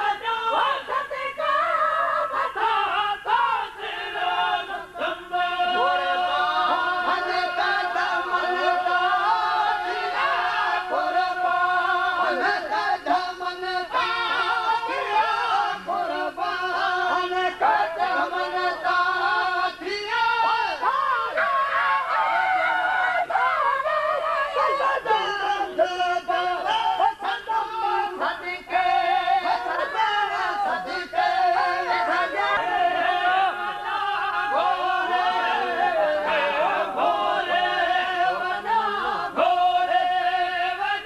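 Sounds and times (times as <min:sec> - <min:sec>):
men chanting in chorus: 0:00.0 - 0:41.0.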